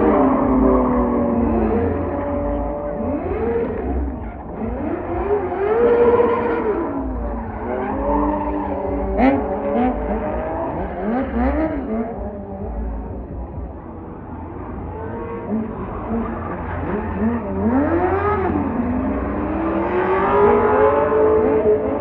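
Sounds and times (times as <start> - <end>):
tyres squealing and skidding: 0.0 - 12.0, 14.6 - 22.0
car engine revving: 0.0 - 22.0.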